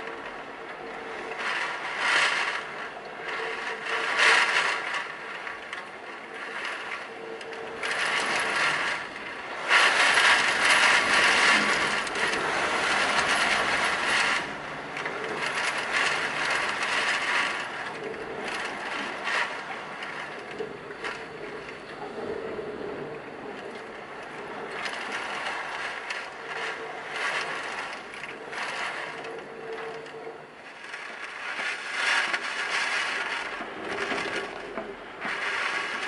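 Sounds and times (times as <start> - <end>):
heavy driving rain: 0.0 - 36.0
strong gusting wind: 0.0 - 36.0.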